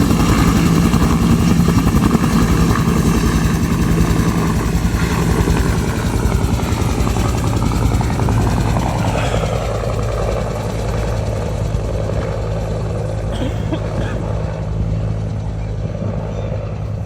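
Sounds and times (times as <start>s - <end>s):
helicopter engine drone: 0.0s - 17.0s
helicopter rotor chopping: 0.0s - 17.0s.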